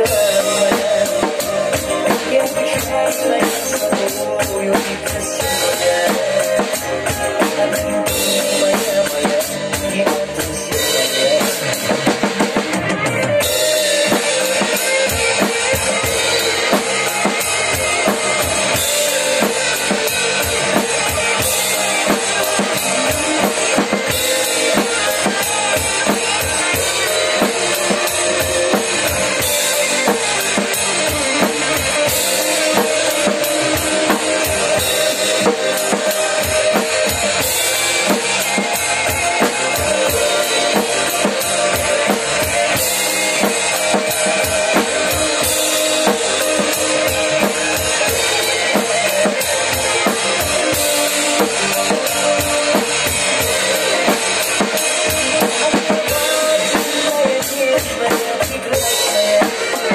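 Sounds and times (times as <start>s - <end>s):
drum kit playing: 0.0s - 59.9s
recorded pop song: 0.0s - 59.9s.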